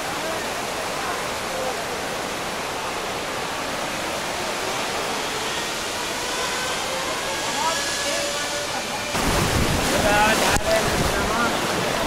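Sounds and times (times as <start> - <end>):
river water rushing over rapids: 0.0 - 12.0.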